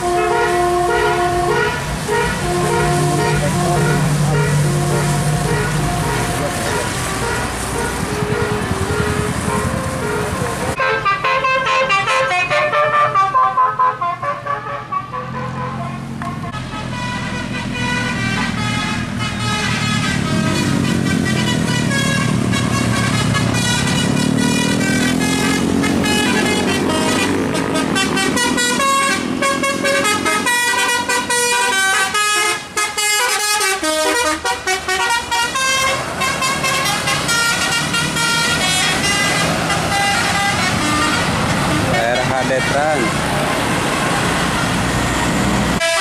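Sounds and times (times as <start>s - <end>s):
bus engine running low: 0.0s - 12.2s, 13.6s - 45.9s
multi-tone bus horn tune: 0.0s - 43.6s, 45.8s - 46.0s.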